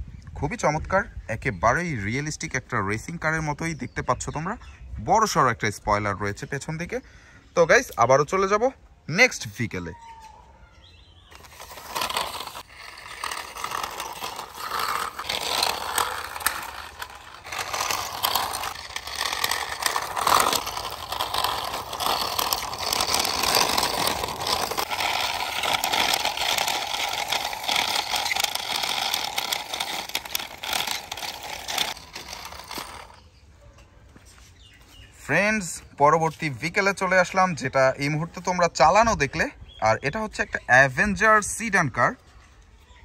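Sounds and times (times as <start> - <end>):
toy car wheels rolling on concrete: 0.2 - 4.3, 5.2 - 7.0, 7.6 - 10.0, 10.7 - 33.9, 35.1 - 42.8.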